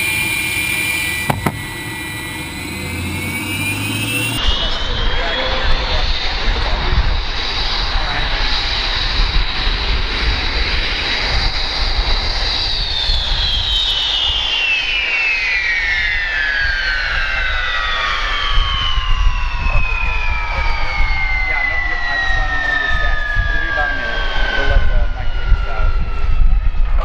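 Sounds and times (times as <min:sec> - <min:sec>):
jet engine whining: 0:00.0 - 0:27.0.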